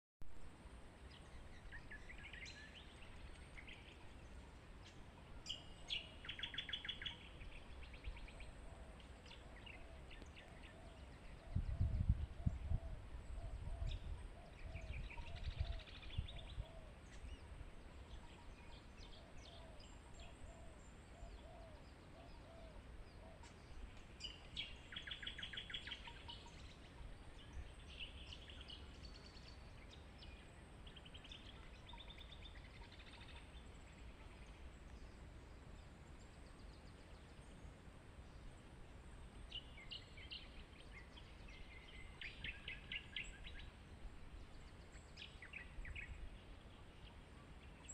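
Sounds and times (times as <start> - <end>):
birds singing and chirping: 1.1 - 35.2, 39.1 - 47.9.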